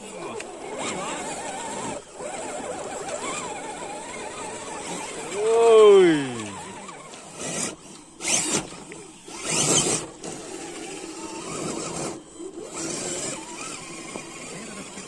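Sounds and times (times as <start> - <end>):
electric motor and gears whirring: 0.0 - 15.0
tyres scrabbling in loose dirt: 0.1 - 15.0.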